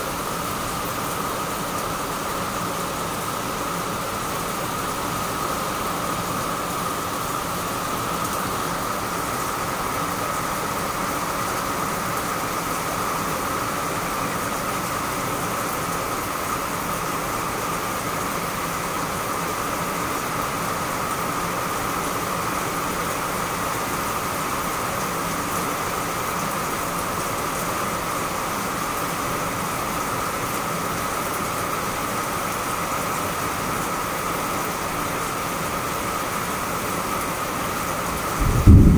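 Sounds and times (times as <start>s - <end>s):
rain falling on plants: 0.0s - 38.9s.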